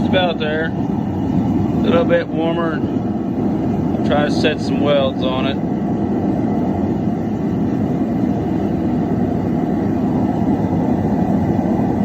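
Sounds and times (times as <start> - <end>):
forge burner rushing: 0.0 - 12.0.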